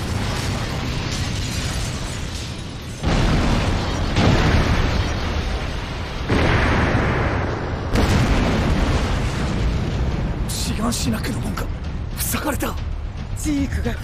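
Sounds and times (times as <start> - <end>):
heavy explosion blasts: 0.0 - 12.2
deep continuous rumble: 0.0 - 14.0.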